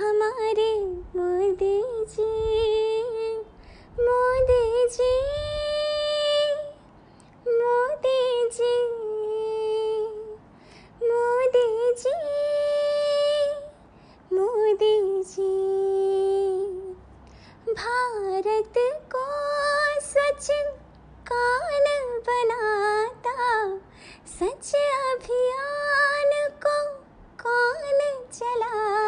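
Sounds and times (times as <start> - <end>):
woman singing unaccompanied: 0.0 - 29.0.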